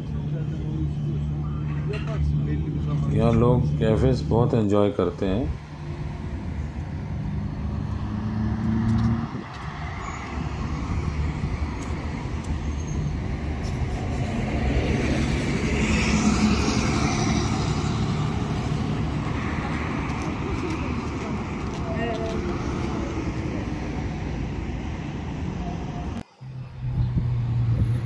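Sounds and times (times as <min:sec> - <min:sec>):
rush of engines and tyres: 0:00.0 - 0:28.0
vehicles passing: 0:00.0 - 0:28.0.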